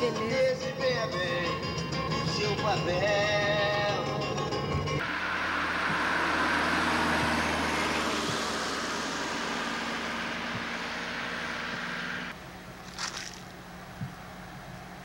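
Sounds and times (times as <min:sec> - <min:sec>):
van driving past: 0:00.4 - 0:15.0.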